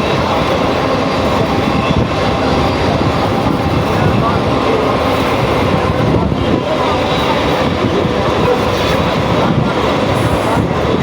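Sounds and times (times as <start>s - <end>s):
electric train rumbling on track: 0.0s - 11.0s.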